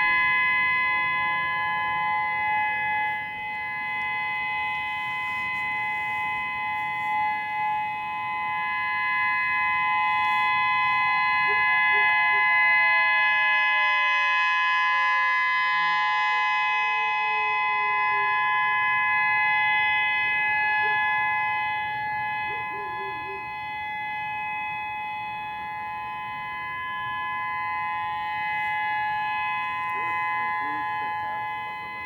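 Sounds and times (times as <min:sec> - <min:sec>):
electronic warning siren chord: 0:00.0 - 0:32.0.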